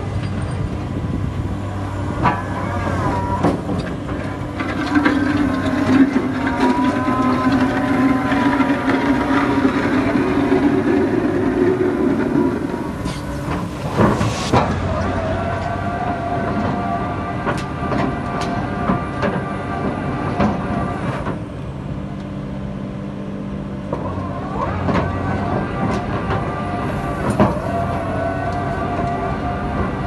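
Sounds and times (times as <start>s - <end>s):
backhoe engine running: 0.0s - 30.0s.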